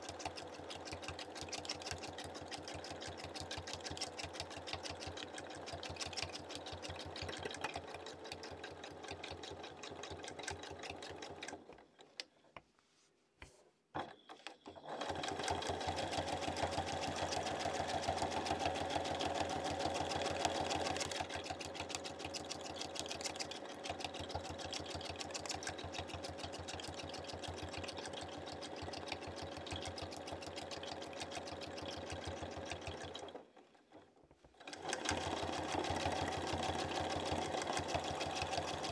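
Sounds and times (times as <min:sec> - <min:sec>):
sewing machine clicks: 0:00.0 - 0:12.5, 0:14.0 - 0:38.9
sewing machine stitching: 0:00.0 - 0:12.5, 0:13.9 - 0:38.9.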